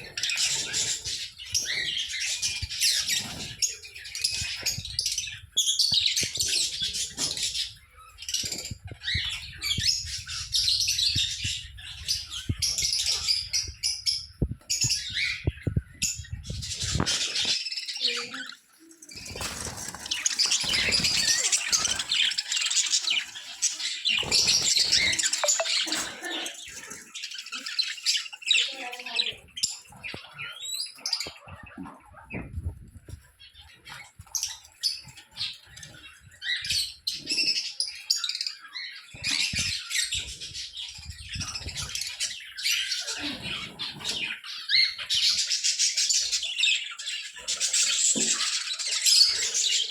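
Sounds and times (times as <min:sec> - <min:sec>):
caged birds chirping and squawking: 0:00.0 - 0:49.9.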